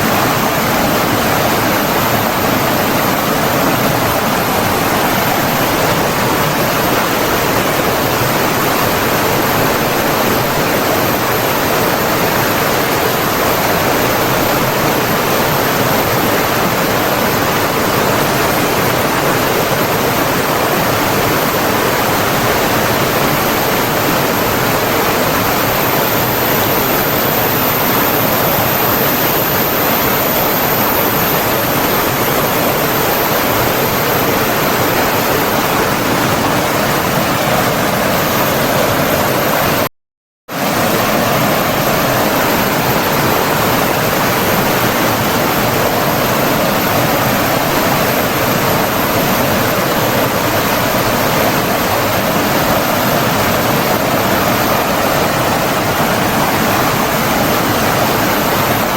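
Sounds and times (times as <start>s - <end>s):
rushing water: 0.0s - 39.9s, 40.5s - 58.9s.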